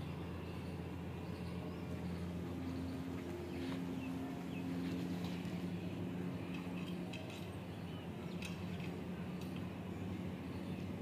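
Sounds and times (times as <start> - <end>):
low mechanical hum: 0.0 - 11.0
small birds chirping faintly: 0.0 - 11.0.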